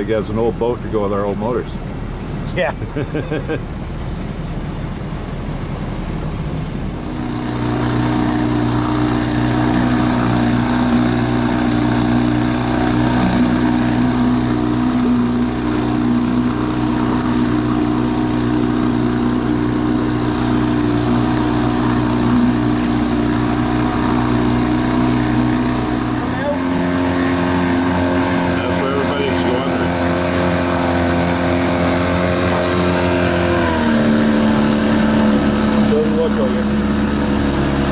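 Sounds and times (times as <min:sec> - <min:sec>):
small outboard motor running: 0:00.0 - 0:37.9.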